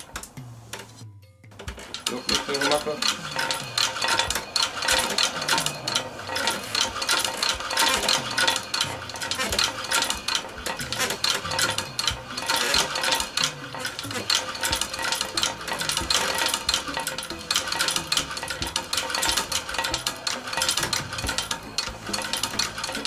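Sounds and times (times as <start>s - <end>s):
sewing machine clattering: 0.0s - 23.0s.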